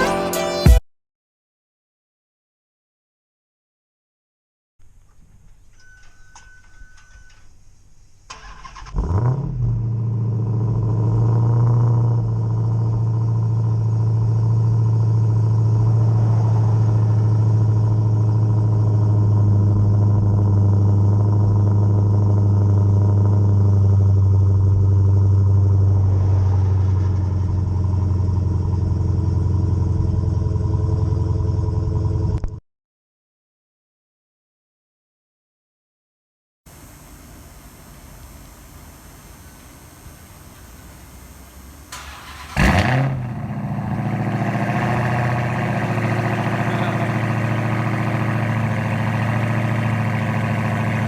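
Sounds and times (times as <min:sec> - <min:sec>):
car engine starting and idling: 0:04.8 - 0:32.6, 0:36.7 - 0:51.0.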